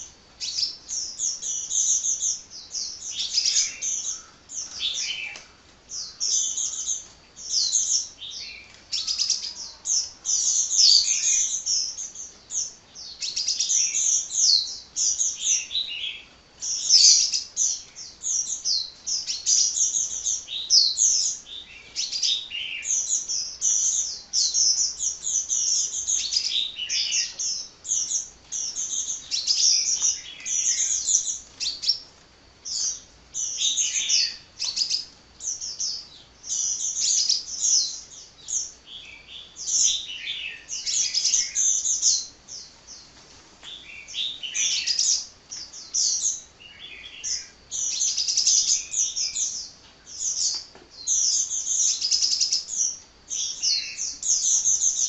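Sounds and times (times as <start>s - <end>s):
sunbird chirping: 0.0s - 55.0s.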